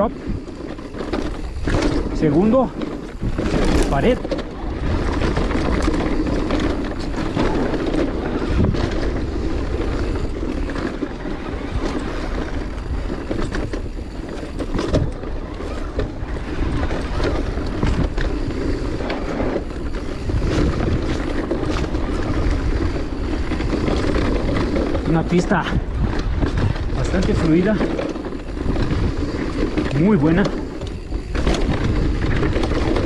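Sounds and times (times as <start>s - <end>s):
bike clattering over bumps: 0.0s - 33.0s
tyres on loose dirt: 0.0s - 33.0s
wind rushing over microphone: 0.0s - 33.0s.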